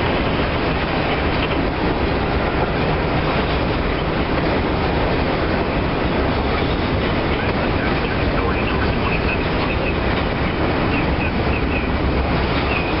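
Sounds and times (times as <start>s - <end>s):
steel wheels rumbling on rails: 0.0s - 13.0s.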